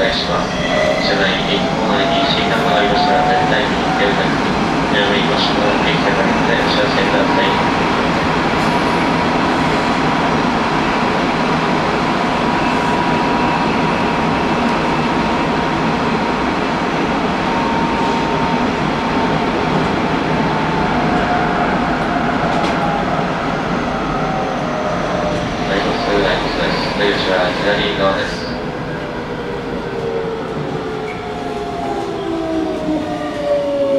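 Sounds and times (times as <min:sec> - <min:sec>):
train rail and wheel noise: 0:00.0 - 0:33.9.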